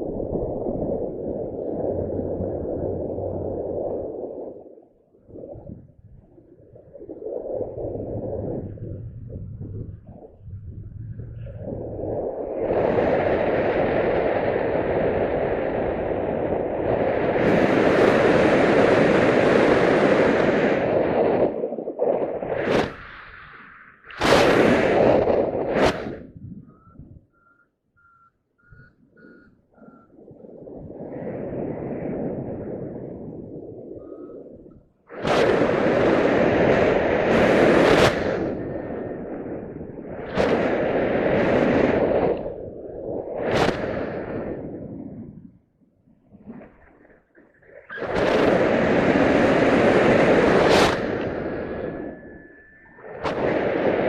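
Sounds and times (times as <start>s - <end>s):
wind buffeting microphone: 0.0s - 27.6s, 28.6s - 47.2s, 47.8s - 54.0s.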